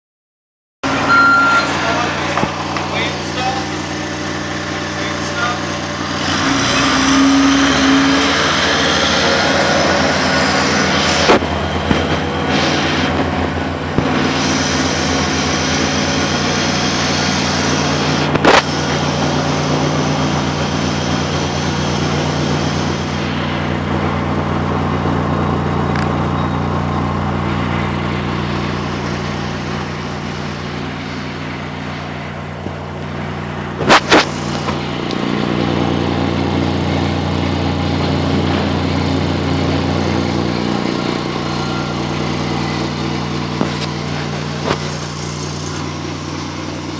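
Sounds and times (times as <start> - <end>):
machine droning: 0.8 - 46.9.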